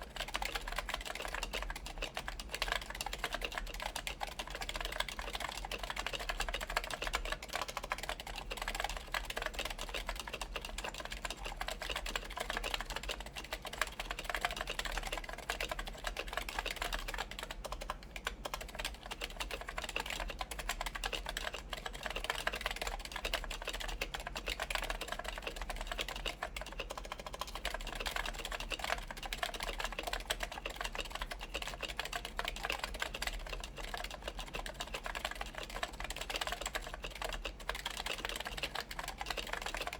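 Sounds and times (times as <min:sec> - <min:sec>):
soft keyboard typing clicks: 0:00.0 - 0:39.9.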